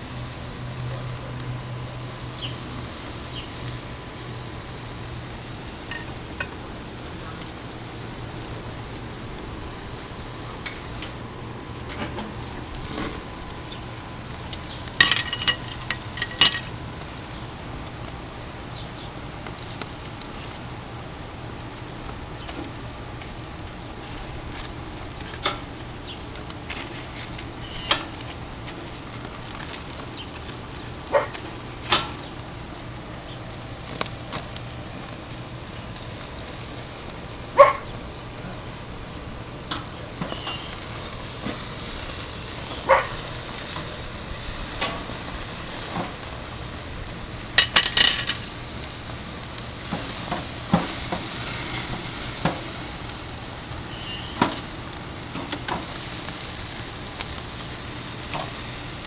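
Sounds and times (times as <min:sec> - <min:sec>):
steaks sizzling on a grill: 0:00.0 - 0:59.0.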